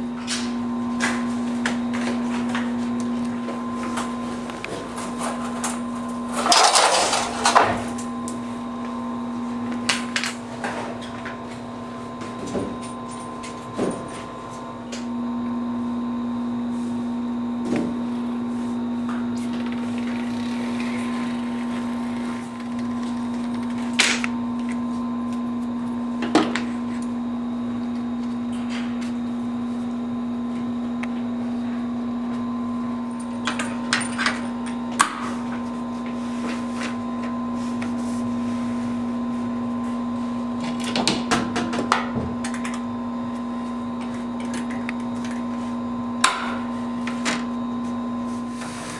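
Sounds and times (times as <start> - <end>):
workshop machine humming: 0.0 - 48.9.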